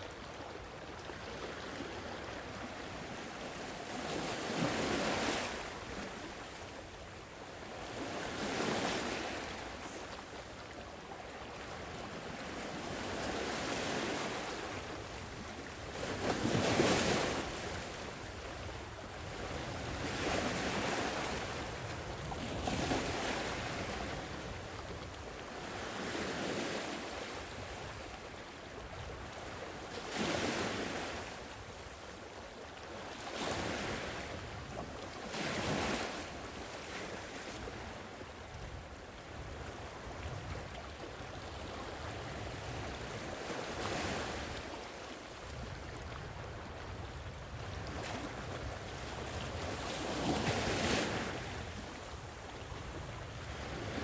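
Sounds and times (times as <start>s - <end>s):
waves breaking on shore: 0.0s - 32.0s, 39.4s - 54.0s.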